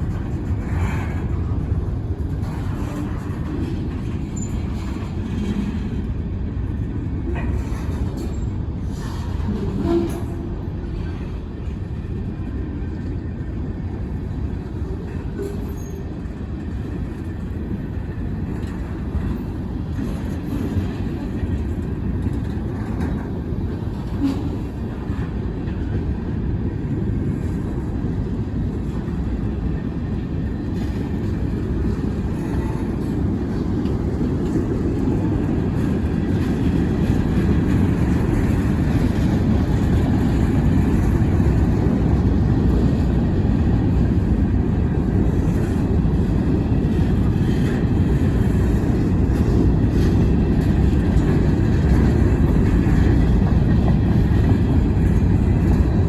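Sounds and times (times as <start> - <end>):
freight train rumbling by: 0.0 - 56.0.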